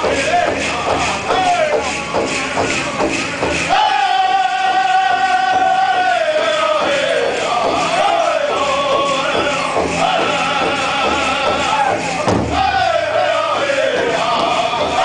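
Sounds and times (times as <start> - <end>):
group singing: 0.0 - 15.0
steady drumbeat: 0.0 - 15.0.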